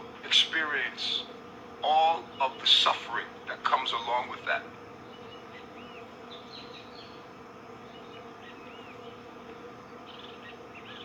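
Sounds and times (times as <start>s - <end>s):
steady buzzing drone: 0.0s - 11.0s.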